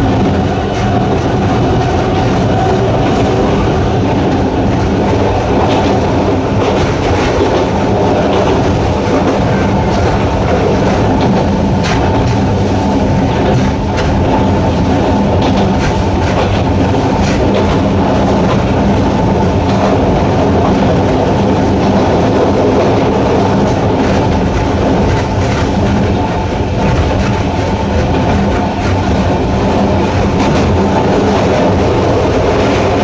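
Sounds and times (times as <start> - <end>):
electric train running: 0.0 - 33.0
wheels clicking over rail joints: 0.0 - 33.0.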